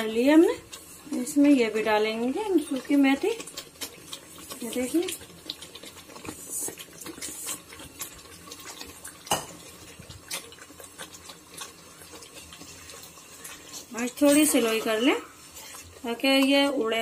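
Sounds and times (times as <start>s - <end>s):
spatula stirring thick gravy: 0.0s - 17.0s.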